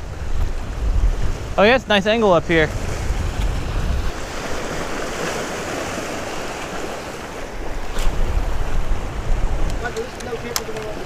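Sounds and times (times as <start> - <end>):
waves splashing over rocks: 0.0 - 11.0
wind buffeting microphone: 0.0 - 11.0.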